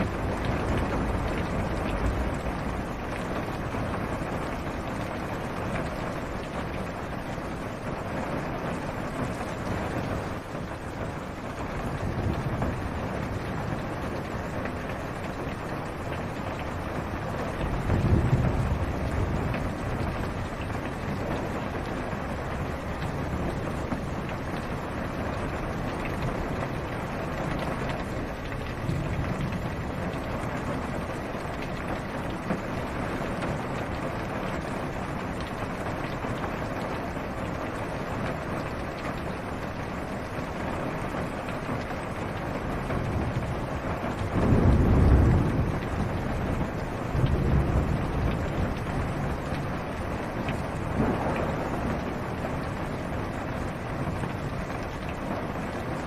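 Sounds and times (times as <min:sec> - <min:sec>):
thunder rumbles: 0:00.0 - 0:10.5, 0:11.4 - 0:37.5, 0:42.4 - 0:56.0
rain on a car roof: 0:00.0 - 0:56.0.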